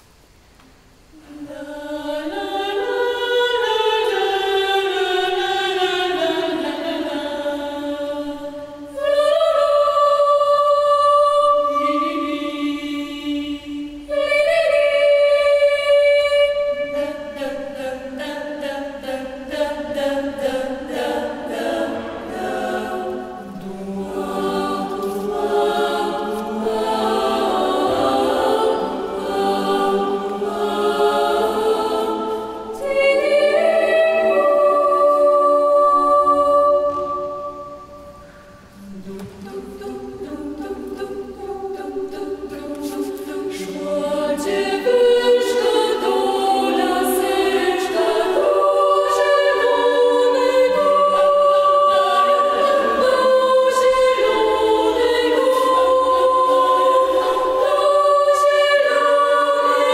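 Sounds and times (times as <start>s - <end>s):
girls' choir singing a cappella: 1.1s - 59.9s.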